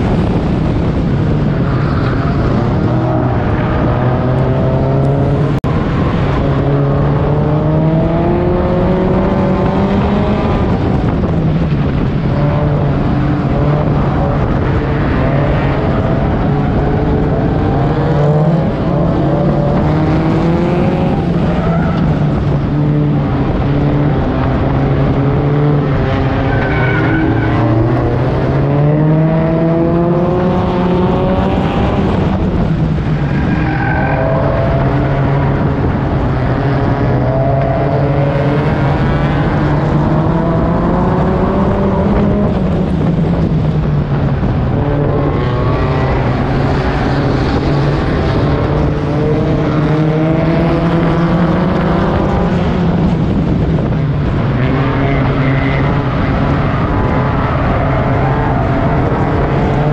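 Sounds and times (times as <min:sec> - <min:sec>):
pack of car engines: 0:00.0 - 0:59.9.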